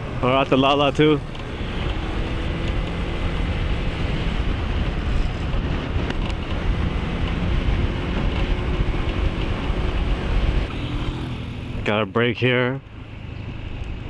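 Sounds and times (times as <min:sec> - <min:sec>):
scooter engine humming: 0:00.0 - 0:11.9
wind rushing over microphone: 0:00.0 - 0:12.2, 0:12.8 - 0:14.0.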